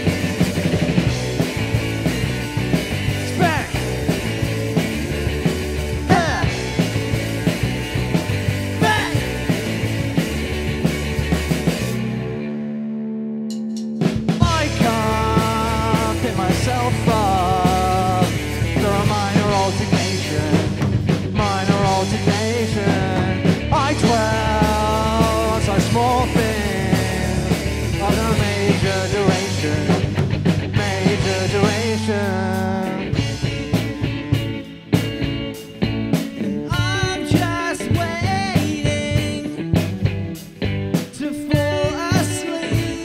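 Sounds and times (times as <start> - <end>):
rock band playing live: 0.0 - 43.0.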